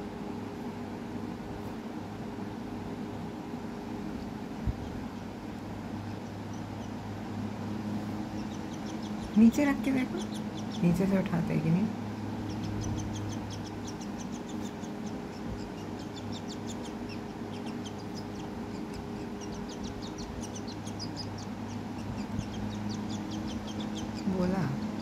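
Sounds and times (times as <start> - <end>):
steady low hum: 0.0 - 25.0
baby bird peeping: 4.1 - 25.0.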